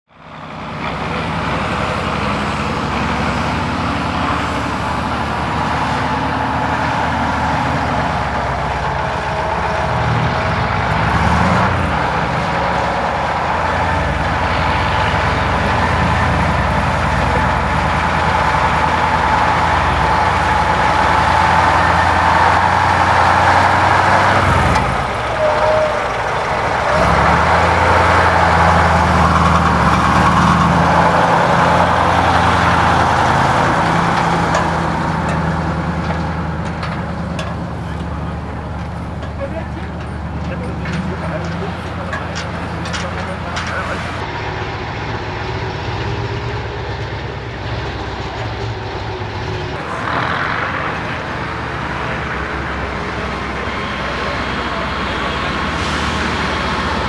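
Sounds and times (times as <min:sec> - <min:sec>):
truck diesel engine running: 0:00.1 - 0:57.0.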